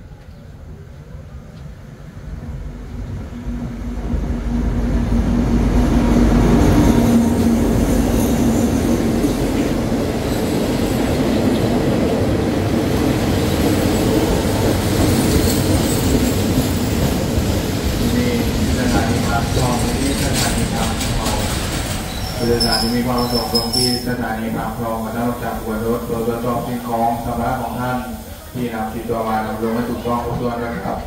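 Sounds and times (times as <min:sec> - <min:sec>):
diesel locomotive engine rumble: 0:00.0 - 0:31.0
train wheels on rails: 0:00.1 - 0:31.0.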